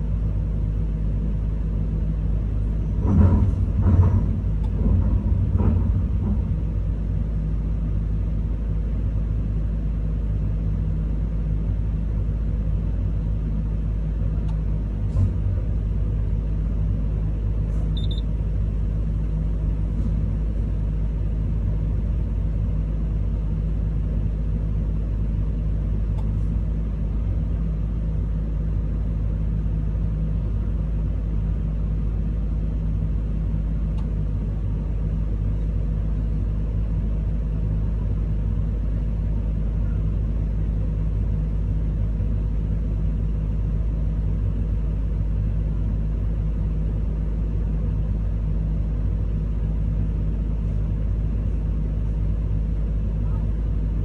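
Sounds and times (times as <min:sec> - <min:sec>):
excavator diesel engine idling: 0:00.0 - 0:54.0.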